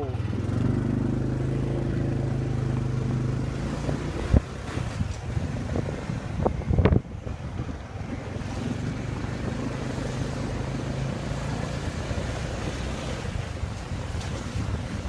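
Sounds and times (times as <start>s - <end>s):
motorbike engine humming: 0.0s - 15.0s
wind rushing over microphone: 0.2s - 15.0s.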